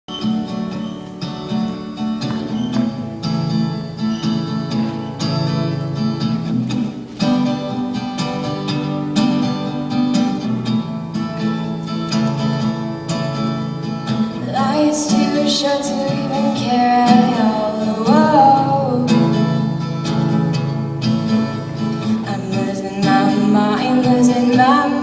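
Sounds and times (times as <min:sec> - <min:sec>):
acoustic guitar chords: 0:00.1 - 0:25.0.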